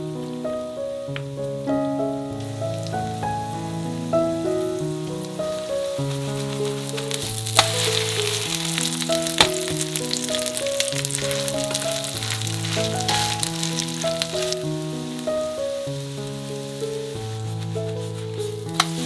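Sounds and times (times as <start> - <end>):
slow background music: 0.0 - 19.0
pancake sizzling in oil: 1.4 - 19.0.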